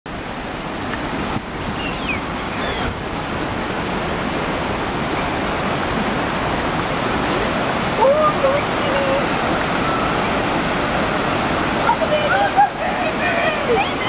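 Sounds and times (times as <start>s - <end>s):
stream rushing over rocks: 0.1s - 14.0s.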